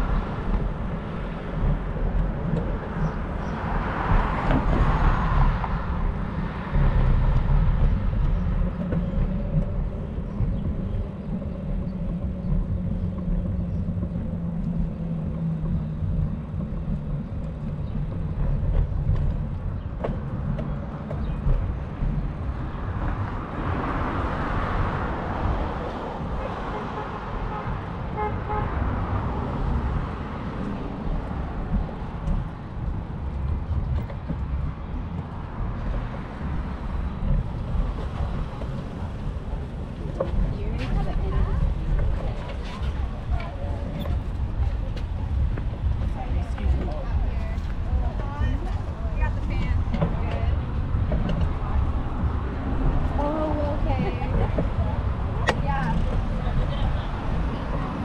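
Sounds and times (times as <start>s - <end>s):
city traffic: 0.0s - 58.0s
wind rumbling on microphone: 0.0s - 58.0s.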